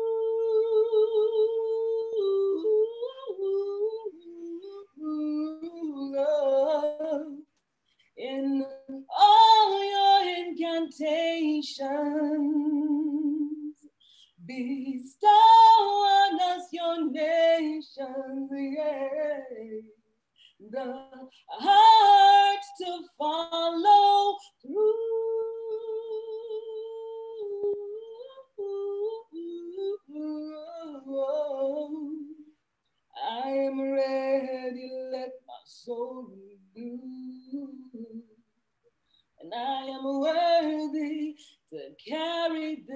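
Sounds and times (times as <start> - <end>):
woman singing unaccompanied: 0.0 - 7.5, 8.2 - 32.5, 33.1 - 38.4, 39.4 - 42.9.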